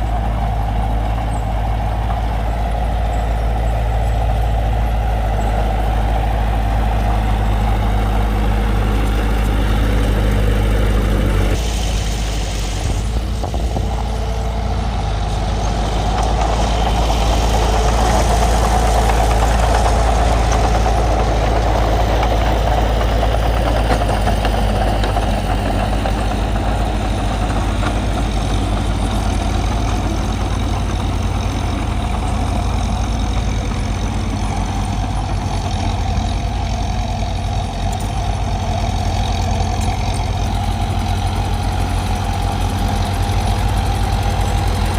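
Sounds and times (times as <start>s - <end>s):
bulldozer diesel engine rumbling: 0.0s - 44.9s.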